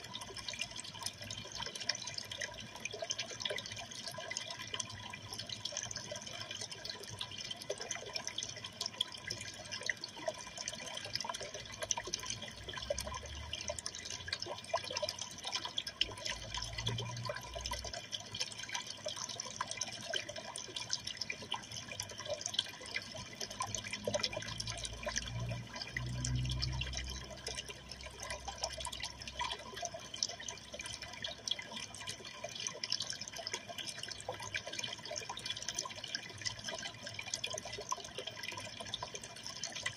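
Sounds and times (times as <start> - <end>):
aquarium water trickling: 0.0 - 39.9
water drip plinks: 0.0 - 39.9.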